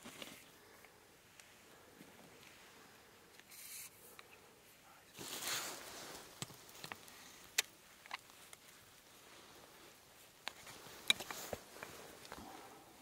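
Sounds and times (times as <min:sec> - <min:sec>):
rustle: 0:01.2 - 0:13.0.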